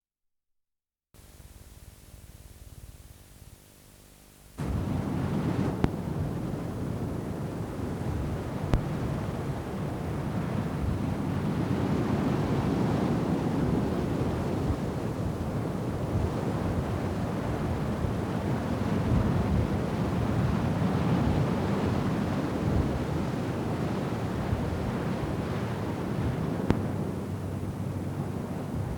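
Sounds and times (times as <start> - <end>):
rough sea and surf: 4.6 - 28.9
wind buffeting microphone: 4.6 - 28.9.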